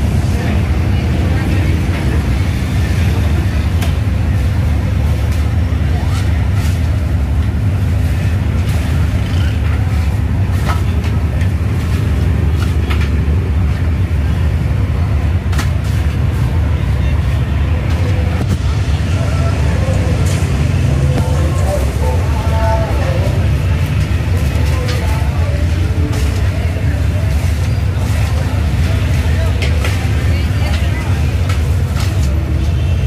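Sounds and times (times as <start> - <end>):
burners roaring: 0.0 - 33.0.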